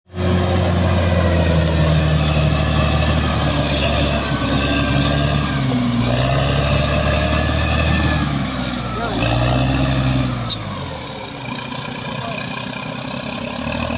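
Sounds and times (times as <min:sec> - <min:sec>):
bulldozer diesel engine running: 0:00.0 - 0:13.9.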